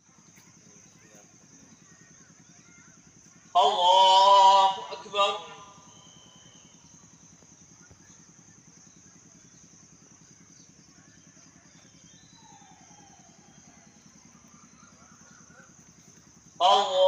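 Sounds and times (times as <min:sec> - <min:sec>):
faint engine hum: 0:00.0 - 0:17.0.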